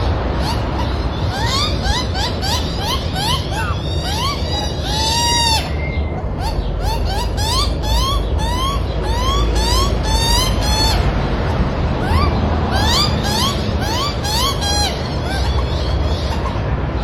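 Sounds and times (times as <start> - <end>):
bird calling: 0.0 - 17.0
steady low rumble: 0.0 - 17.0.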